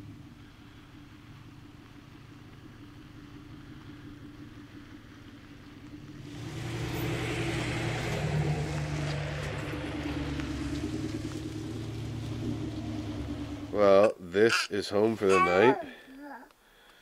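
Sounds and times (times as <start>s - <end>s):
pickup truck engine hum: 0.0s - 15.5s
tyres on gravel: 0.0s - 16.2s.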